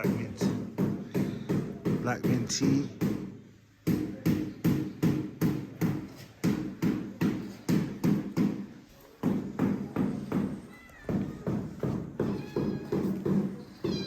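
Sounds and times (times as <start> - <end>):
rapid even hammering: 0.0 - 14.0.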